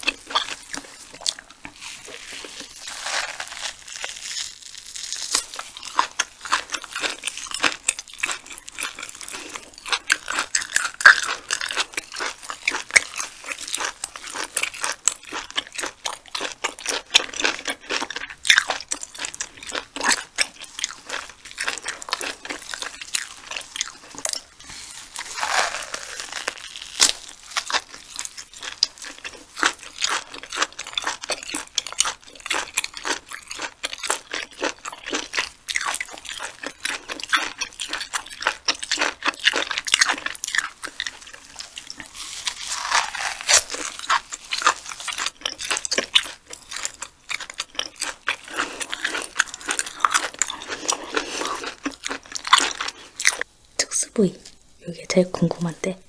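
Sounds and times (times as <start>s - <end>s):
wet chewing: 0.0s - 53.5s.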